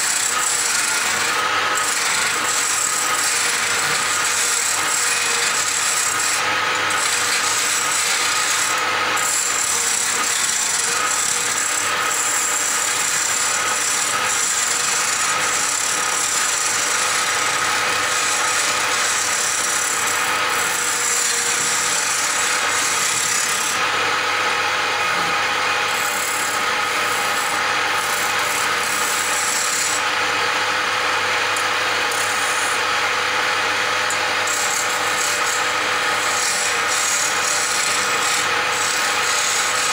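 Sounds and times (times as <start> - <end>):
lathe motor hum: 0.0 - 39.9
tool scraping spinning wood: 0.0 - 39.9.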